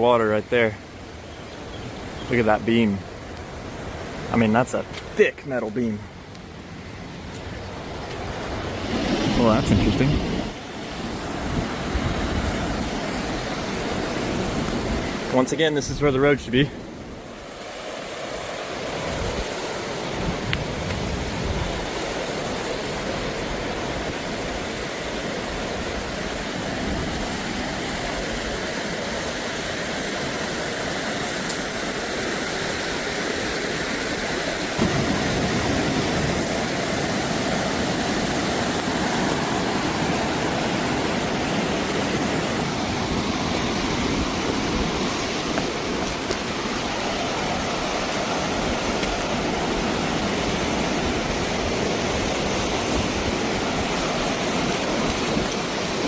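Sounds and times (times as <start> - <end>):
fast-flowing river water: 6.6 - 56.0.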